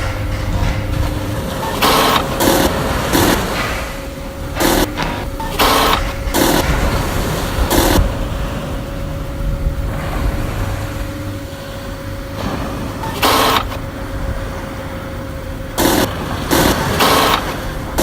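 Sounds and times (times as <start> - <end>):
short loud noise bursts: 0.0 - 14.6
low engine-like rumble: 0.0 - 18.0
steady held tone: 0.0 - 18.0.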